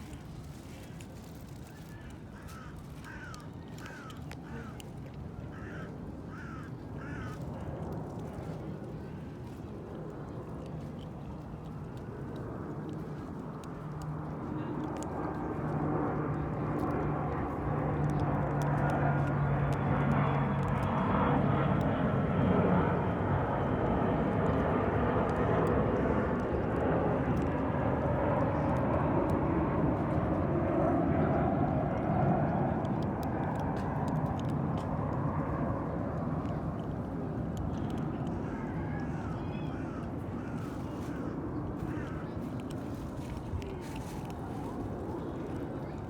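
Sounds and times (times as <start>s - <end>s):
low aircraft engine drone: 0.0s - 46.0s.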